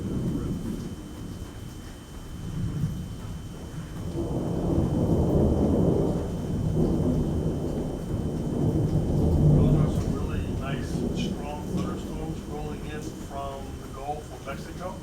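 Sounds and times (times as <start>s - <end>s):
rolling thunder: 0.0s - 1.4s, 2.4s - 15.0s.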